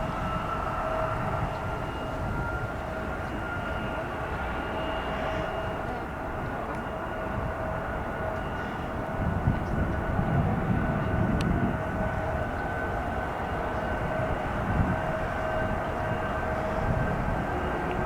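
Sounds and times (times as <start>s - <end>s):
jet engines whine: 0.0s - 18.0s.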